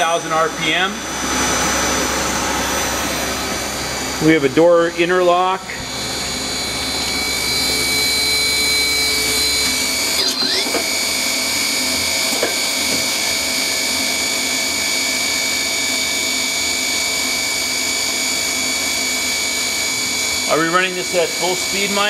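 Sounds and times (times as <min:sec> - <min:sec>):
lathe high-pitched whine: 0:00.0 - 0:22.0.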